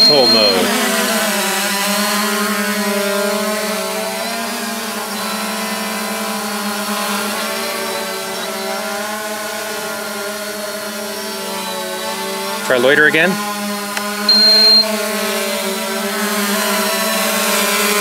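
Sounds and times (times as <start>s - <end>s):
drone motors buzzing hum: 0.0s - 18.0s.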